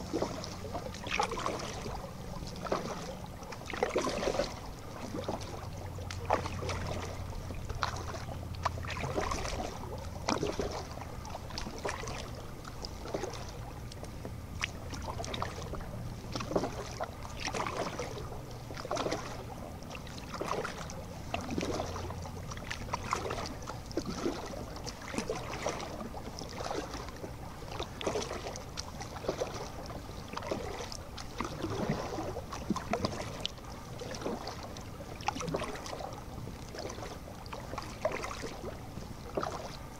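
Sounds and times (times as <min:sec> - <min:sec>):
kayak paddle splashing in water: 0:00.0 - 0:39.9
low steady hum: 0:00.0 - 0:39.9.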